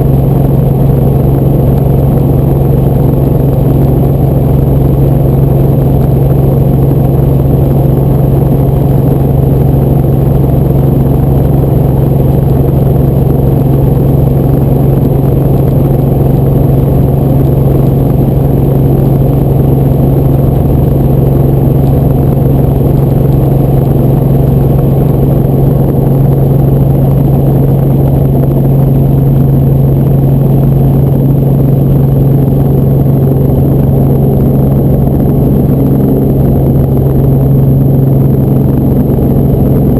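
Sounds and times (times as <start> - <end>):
helicopter engine and rotors droning: 0.0 - 39.9.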